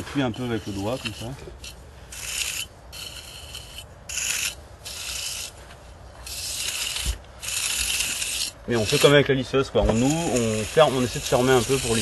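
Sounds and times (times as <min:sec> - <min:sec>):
trowel scraping plaster wall: 0:00.0 - 0:05.6, 0:06.2 - 0:12.0.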